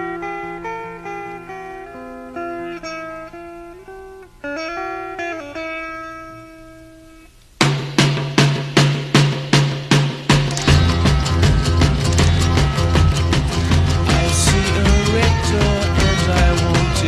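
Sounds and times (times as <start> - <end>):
plucked guitar melody: 0.0 - 7.3, 10.2 - 17.0.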